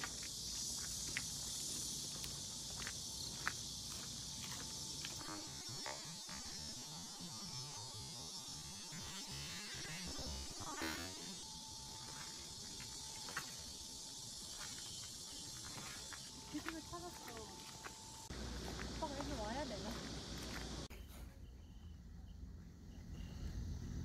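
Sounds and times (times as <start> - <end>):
high insect buzz: 0.0 - 20.9.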